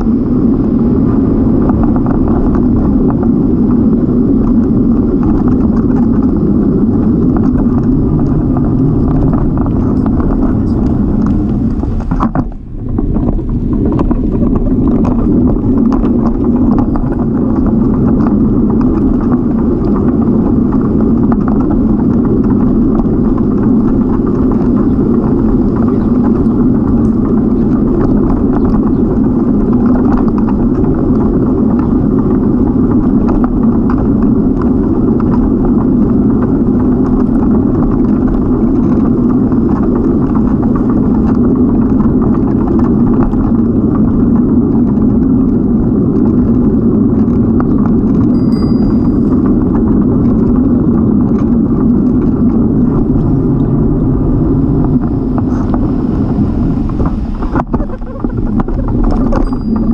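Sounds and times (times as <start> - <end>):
bicycle tyres rolling: 0.0 - 59.9
wind rush: 0.0 - 59.9.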